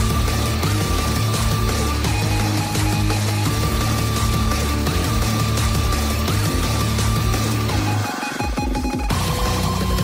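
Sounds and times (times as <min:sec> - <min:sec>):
background music with heavy bass: 0:00.0 - 0:10.0.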